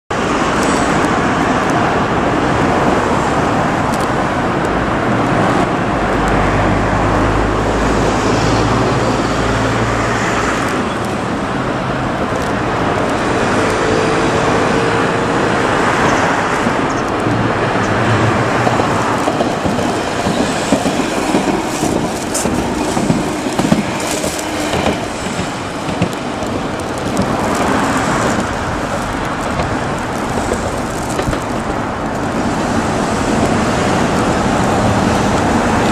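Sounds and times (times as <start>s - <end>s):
road traffic noise: 0.1s - 35.9s
tram wheels clicking over rail joints: 0.2s - 35.9s.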